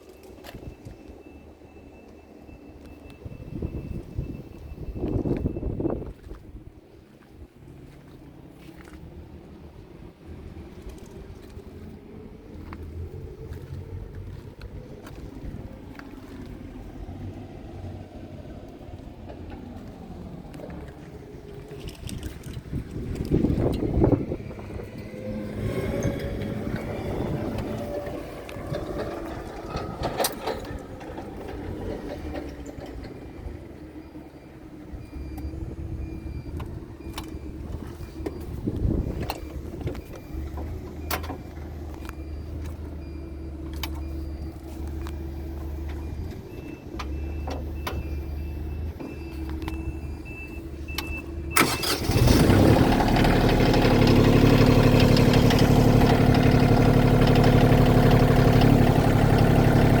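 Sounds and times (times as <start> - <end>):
diesel engine starting and idling: 0.0 - 60.0.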